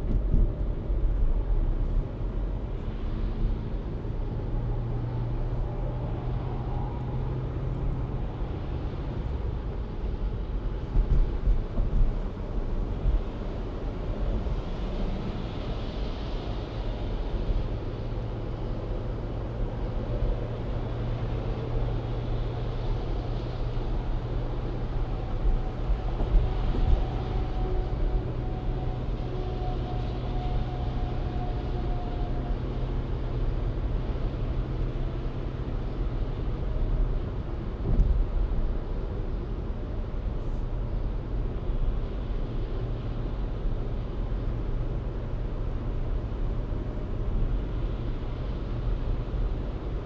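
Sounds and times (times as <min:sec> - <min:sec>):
car engine and road hum: 0:00.0 - 0:50.0.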